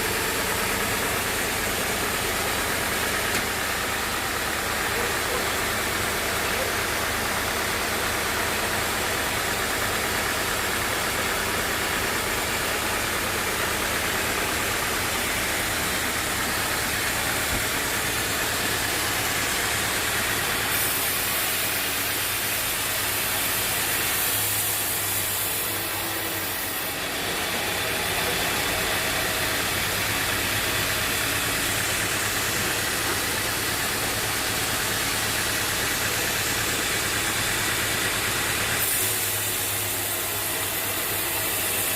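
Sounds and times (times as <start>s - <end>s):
sawmill engine running: 0.0s - 41.9s.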